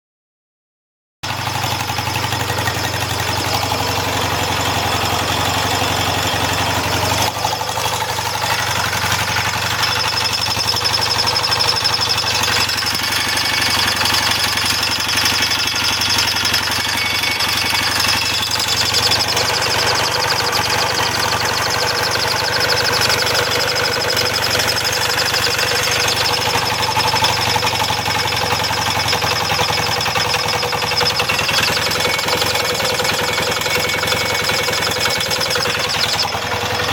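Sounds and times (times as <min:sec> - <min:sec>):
motorcycle engine running: 0:01.2 - 0:36.9.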